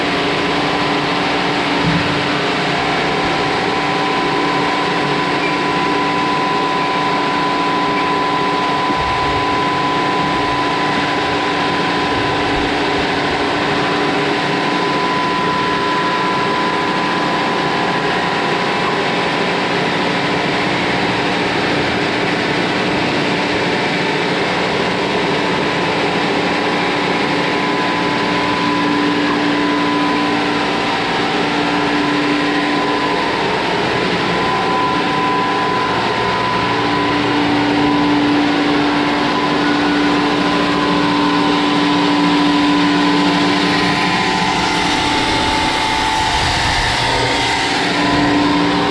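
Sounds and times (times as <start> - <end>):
high machine whine: 0.0 - 48.9
sawmill machinery humming: 0.0 - 48.9.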